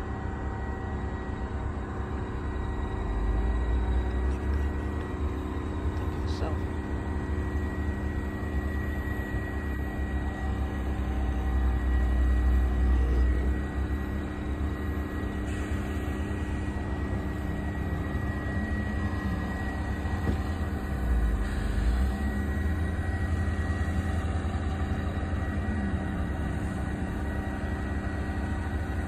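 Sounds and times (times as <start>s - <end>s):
heavy industrial machinery drone: 0.0s - 29.0s.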